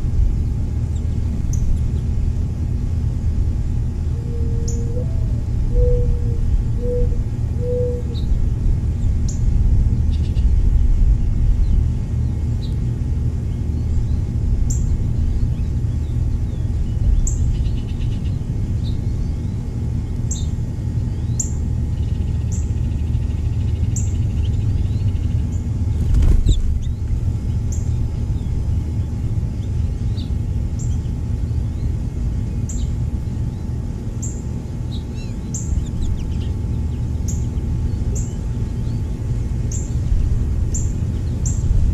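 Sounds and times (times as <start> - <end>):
steady low rumble: 0.0 - 41.9
songbirds chirping: 0.3 - 41.9.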